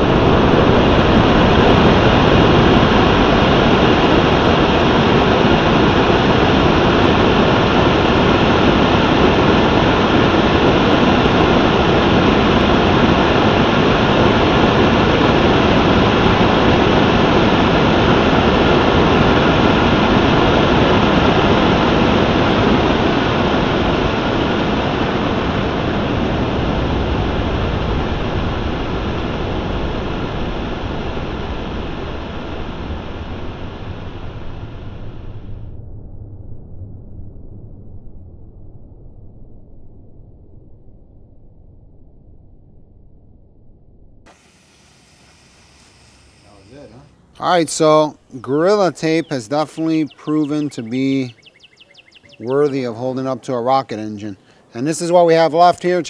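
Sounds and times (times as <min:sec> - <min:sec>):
rocket engine exhaust roar: 0:00.0 - 0:56.0.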